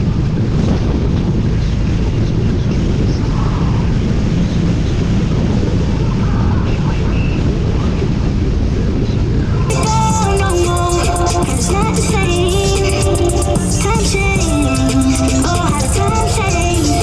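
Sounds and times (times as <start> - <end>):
motorcycle engine rumble: 0.0 - 17.0
wind rushing over microphone: 0.0 - 17.0.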